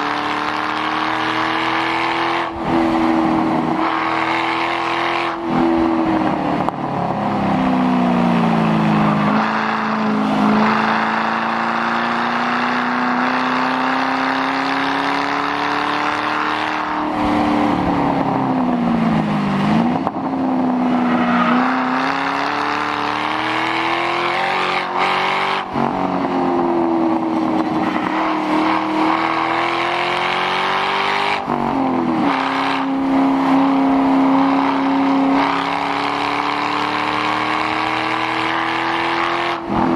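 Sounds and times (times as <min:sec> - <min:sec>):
loud car engine revving: 0:00.0 - 0:39.9.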